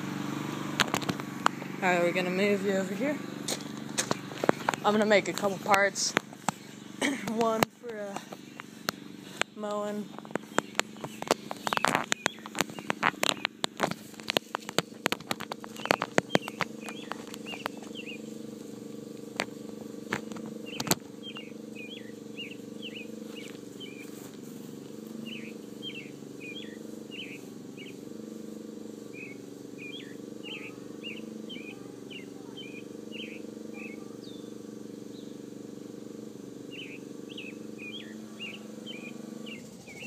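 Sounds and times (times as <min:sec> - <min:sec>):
steady low hum: 0:00.0 - 0:40.0
bird chirping: 0:03.8 - 0:24.3, 0:25.0 - 0:35.6, 0:36.5 - 0:40.0.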